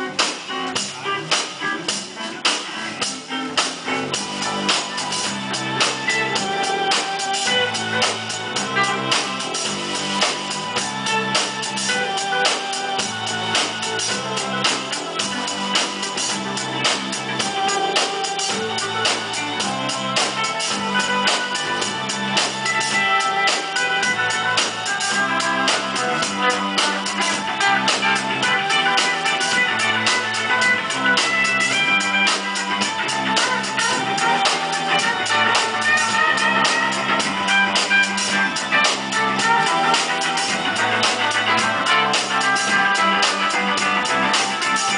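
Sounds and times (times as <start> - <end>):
drum kit: 0.0 - 44.9
electric guitar: 0.0 - 44.9
keyboard: 0.0 - 44.9.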